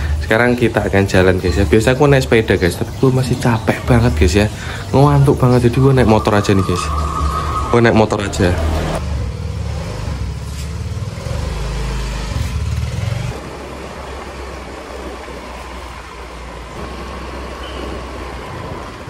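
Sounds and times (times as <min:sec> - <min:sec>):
road noise: 0:00.0 - 0:19.0
scooter engine: 0:00.0 - 0:19.0.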